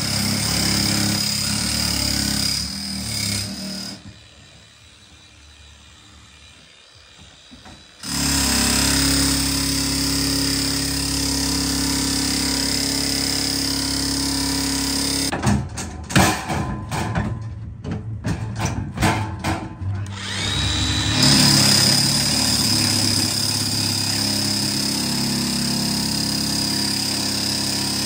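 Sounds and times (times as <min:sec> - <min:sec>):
demolition hammer chiselling steel: 0:00.0 - 0:17.4, 0:18.4 - 0:28.0.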